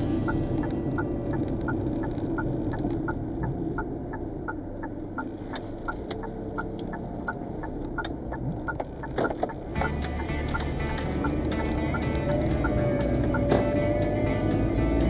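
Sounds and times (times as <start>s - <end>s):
car engine hum: 0.0s - 15.0s
road noise: 0.0s - 15.0s
turn signal clicking: 0.1s - 15.0s.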